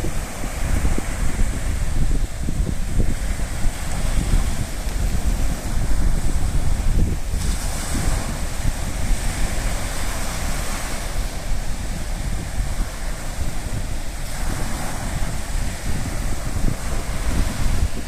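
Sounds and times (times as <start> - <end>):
sea waves washing onto shore: 0.0 - 18.0
wind buffeting microphone: 0.0 - 18.0.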